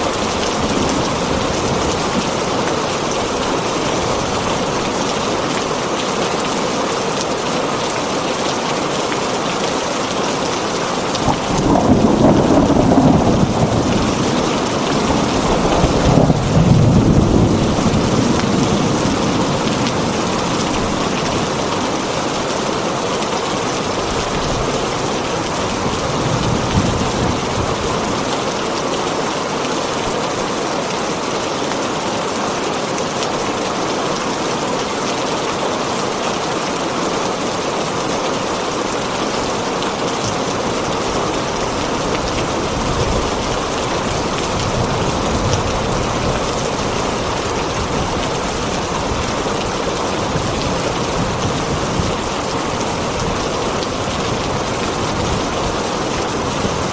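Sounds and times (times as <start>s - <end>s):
heavy rain on a tin roof: 0.0s - 56.9s.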